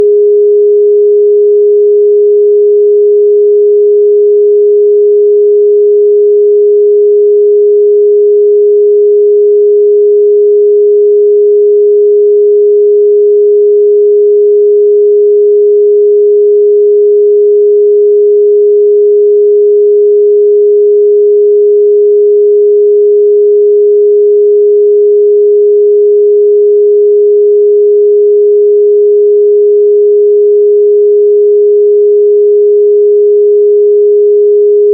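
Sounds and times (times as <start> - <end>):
sine wave test tone: 0.0 - 34.9.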